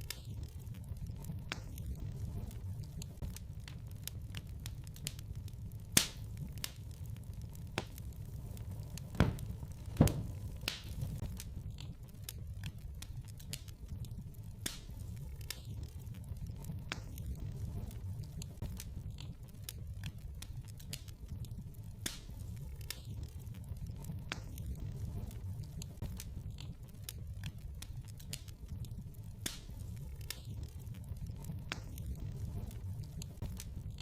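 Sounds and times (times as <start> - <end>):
fire crackling and popping: 0.0 - 34.0
fire low rumble: 0.0 - 34.0.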